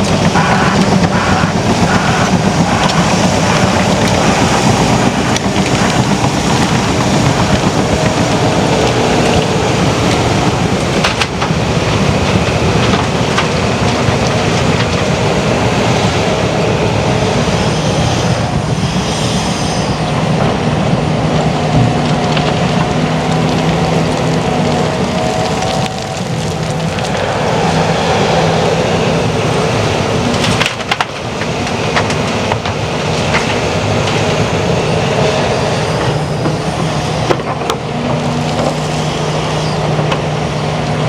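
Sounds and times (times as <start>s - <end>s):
diesel engines under load: 0.0s - 41.0s
steel crawler tracks clattering: 0.0s - 41.0s.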